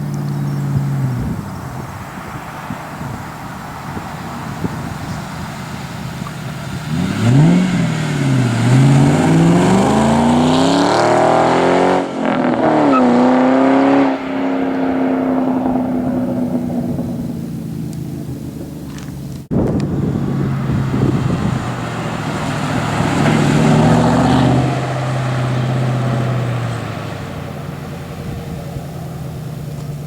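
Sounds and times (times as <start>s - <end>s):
car engine accelerating hard: 0.0s - 30.0s.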